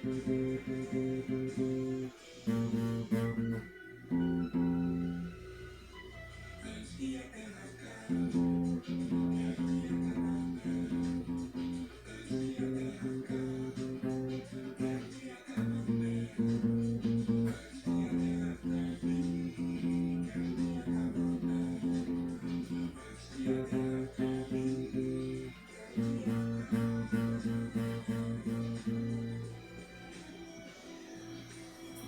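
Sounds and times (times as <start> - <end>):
acoustic guitar strumming: 0.0 - 5.4, 8.0 - 29.9.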